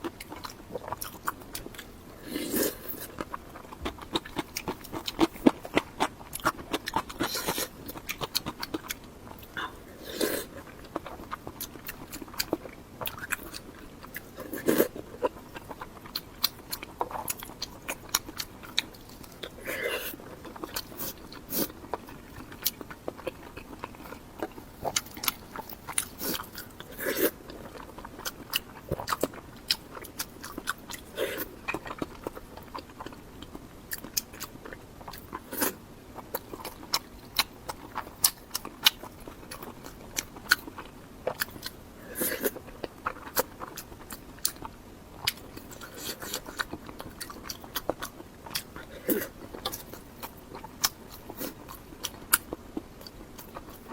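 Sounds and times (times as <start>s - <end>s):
chewing and biting: 0.0s - 53.9s.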